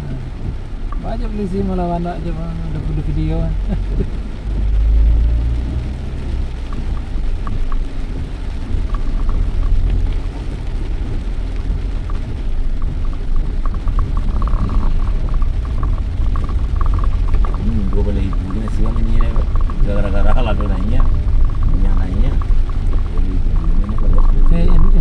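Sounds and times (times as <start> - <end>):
car driving rumble: 0.0 - 25.0
road noise hiss: 0.0 - 25.0.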